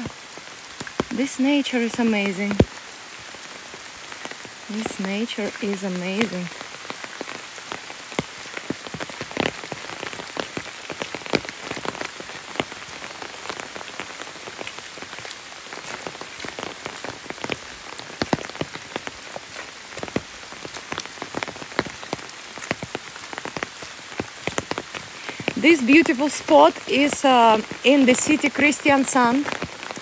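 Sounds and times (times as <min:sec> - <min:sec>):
rain falling: 0:00.0 - 0:30.0
raindrops striking close by: 0:00.0 - 0:30.0.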